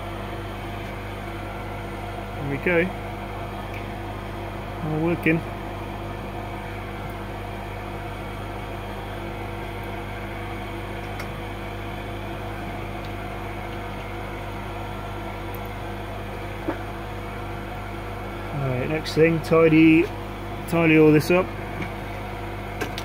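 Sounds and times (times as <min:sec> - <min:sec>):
electrical hum: 0:00.0 - 0:23.0
fan whir: 0:00.0 - 0:23.0.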